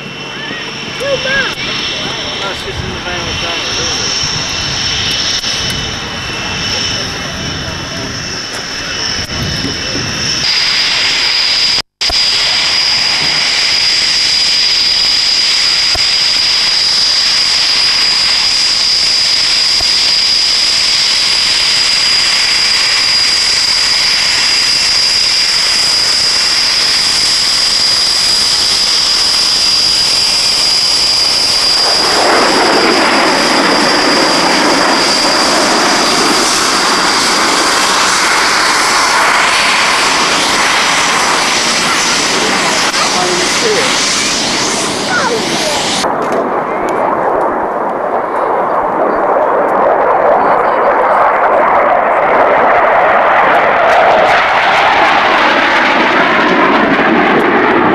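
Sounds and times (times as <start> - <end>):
jet engines whining while taxiing: 0.0 - 57.9.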